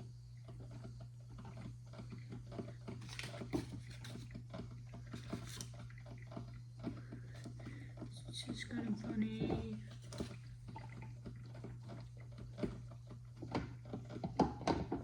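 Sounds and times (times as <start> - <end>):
coffee maker crackling and gurgling: 0.0 - 15.0
steady low hum: 0.0 - 15.0.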